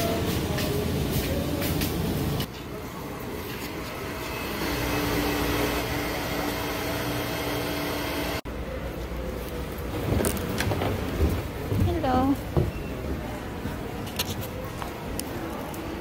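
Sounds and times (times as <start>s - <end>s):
busy indoor hall noise: 0.0s - 16.0s.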